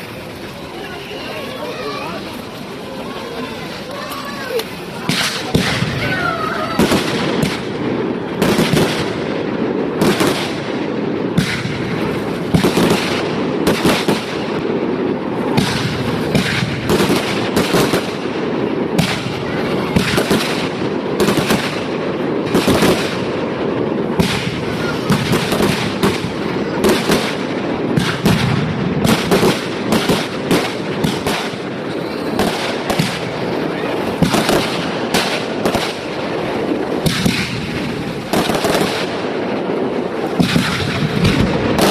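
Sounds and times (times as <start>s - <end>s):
fireworks banging: 0.0s - 41.9s
fireworks crackling: 0.0s - 41.9s.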